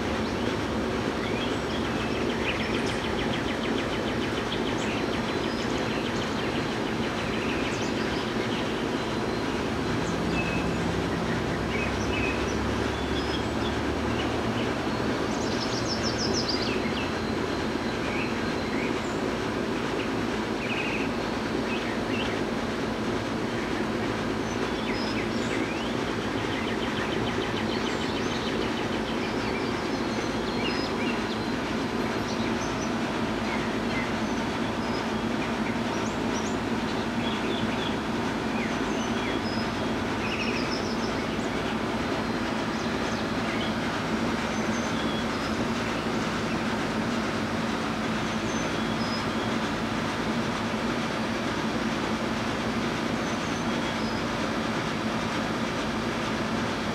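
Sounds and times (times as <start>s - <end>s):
small birds chirping: 0.0s - 56.8s.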